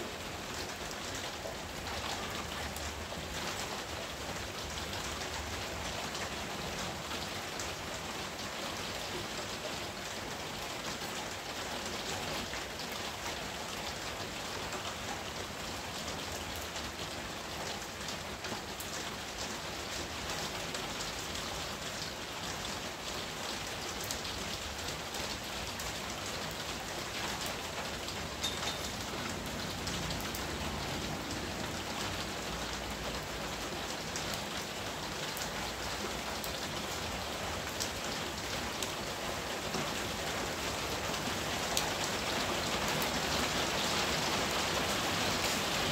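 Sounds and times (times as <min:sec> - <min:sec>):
rain falling on foliage: 0:00.0 - 0:45.9.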